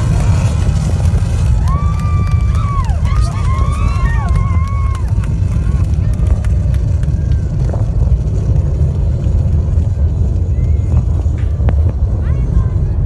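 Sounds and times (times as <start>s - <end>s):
rocket engines rumbling: 0.0s - 13.0s.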